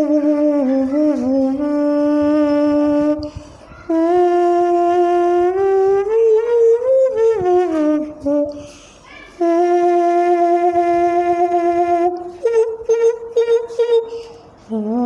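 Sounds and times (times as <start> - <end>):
person imitating a trumpet: 0.0 - 15.0.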